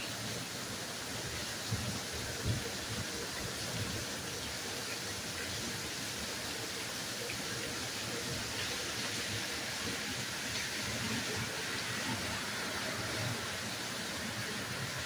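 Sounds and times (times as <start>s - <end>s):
torrential rain hissing: 0.0s - 15.0s.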